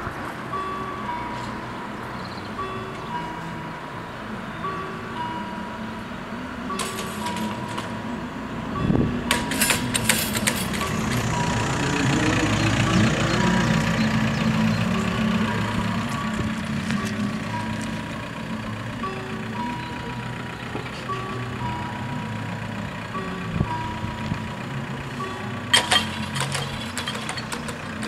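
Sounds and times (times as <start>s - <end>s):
crossing warning bells: 0.0s - 28.0s
vehicle engine running low: 0.0s - 28.0s.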